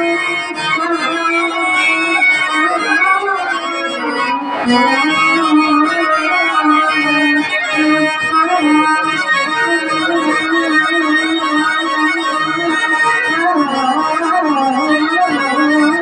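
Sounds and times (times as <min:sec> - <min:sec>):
harmonium melody: 0:00.0 - 0:16.0.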